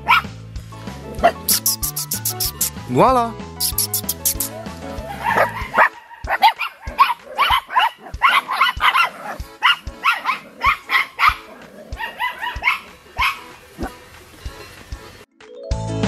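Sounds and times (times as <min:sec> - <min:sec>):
puppies barking and yipping: 0:00.0 - 0:00.3, 0:01.1 - 0:02.7, 0:03.6 - 0:14.8
background music with steady beat: 0:00.0 - 0:16.0.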